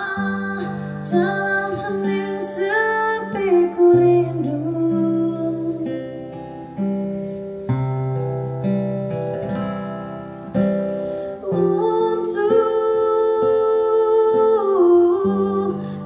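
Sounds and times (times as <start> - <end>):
plucked acoustic guitar: 0.0 - 16.0.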